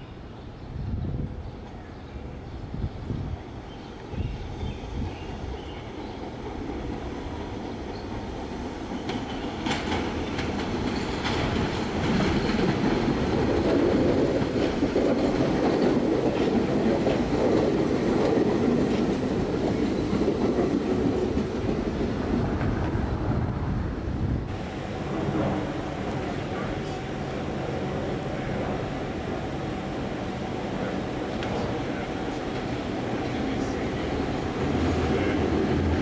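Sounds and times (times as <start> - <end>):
loud train rumble: 0.0 - 36.0.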